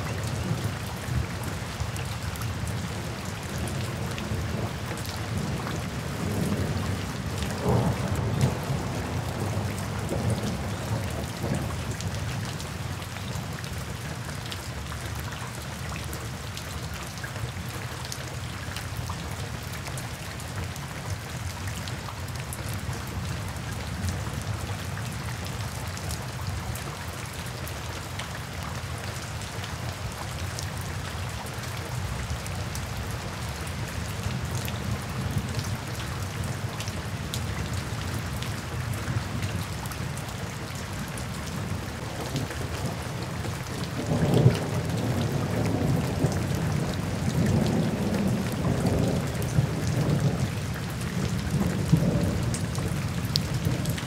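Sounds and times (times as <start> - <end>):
steady rain in woodland: 0.0 - 54.0.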